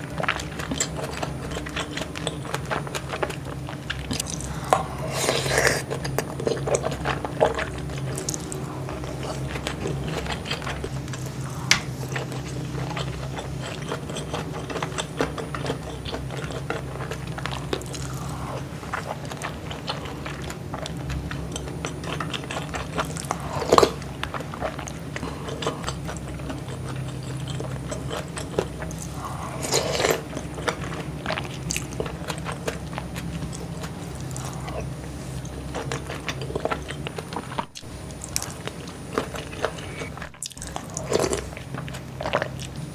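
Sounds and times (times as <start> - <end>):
chewing and biting: 0.0 - 42.9.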